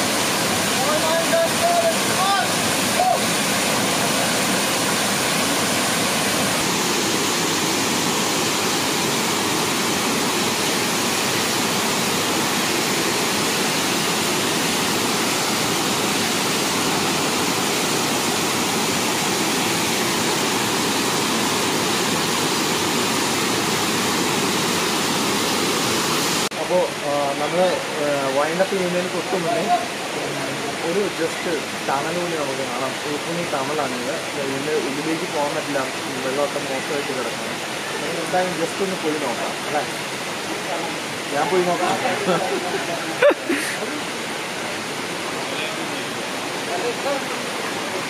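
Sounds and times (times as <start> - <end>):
waterfall pouring into pool: 0.0 - 48.0.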